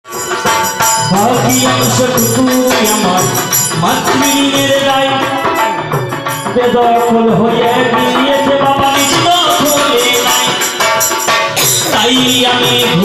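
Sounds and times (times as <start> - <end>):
percussion strikes: 0.0 - 13.0.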